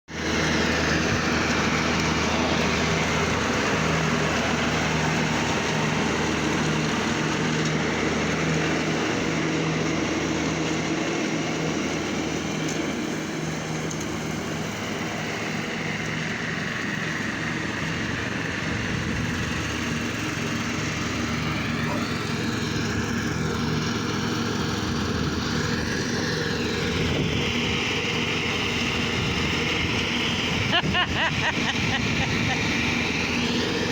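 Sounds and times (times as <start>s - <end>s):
tractor engine running steadily: 0.1s - 33.9s.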